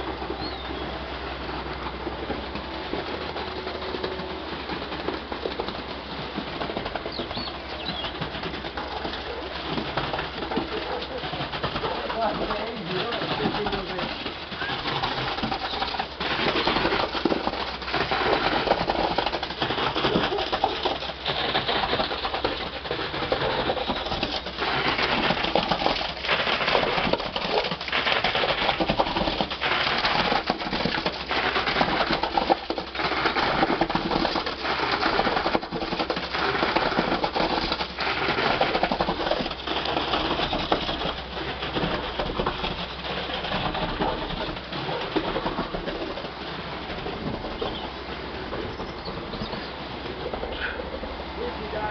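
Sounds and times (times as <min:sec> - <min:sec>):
concrete pump churning: 0:00.0 - 0:51.9.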